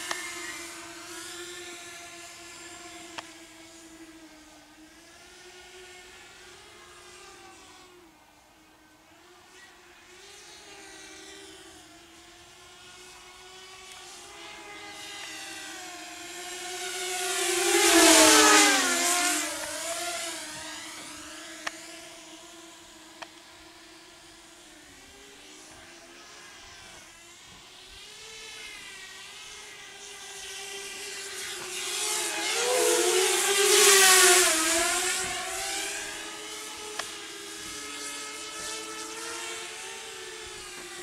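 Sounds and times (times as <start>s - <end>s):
quadcopter motors whining: 0.0s - 41.0s.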